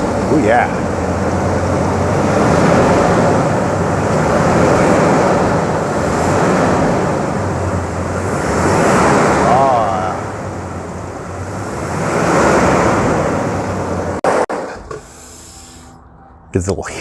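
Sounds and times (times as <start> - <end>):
car engine running: 0.0 - 17.0
rushing intake noise: 0.0 - 17.0.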